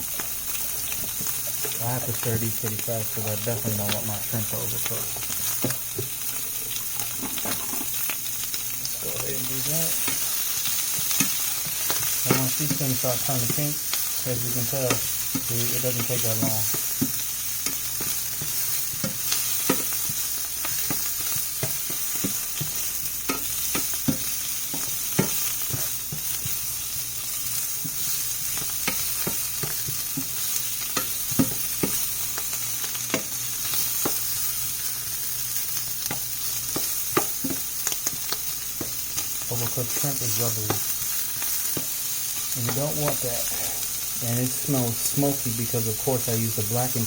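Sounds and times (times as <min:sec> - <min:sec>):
shrimp sizzling in a pan: 0:00.0 - 0:47.0.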